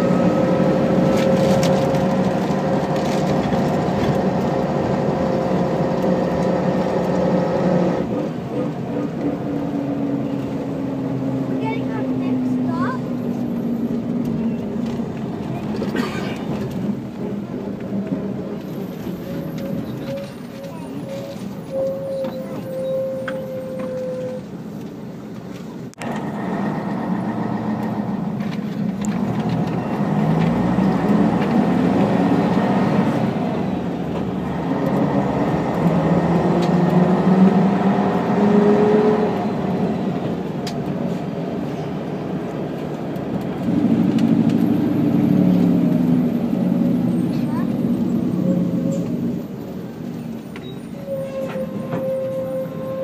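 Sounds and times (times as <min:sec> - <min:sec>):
diesel bus engine accelerating: 0:00.0 - 0:53.0.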